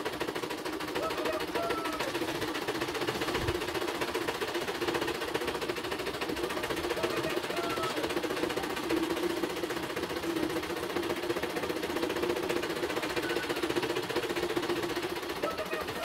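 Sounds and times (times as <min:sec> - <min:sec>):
embroidery machine needle clattering: 0:00.0 - 0:16.0
motor hum: 0:00.0 - 0:16.0.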